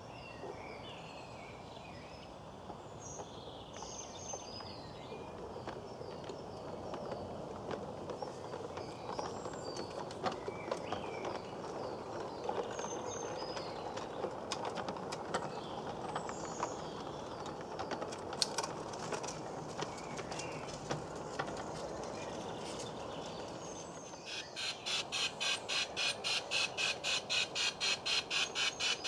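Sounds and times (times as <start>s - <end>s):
small birds chirping: 0.0s - 29.0s
model train wheels rumbling: 4.4s - 29.0s.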